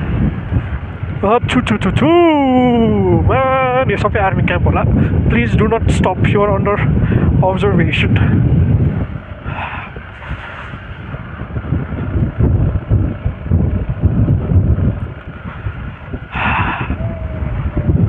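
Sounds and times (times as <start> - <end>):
motorcycle engine rumble: 0.0 - 18.0
wind buffeting microphone: 0.0 - 18.0.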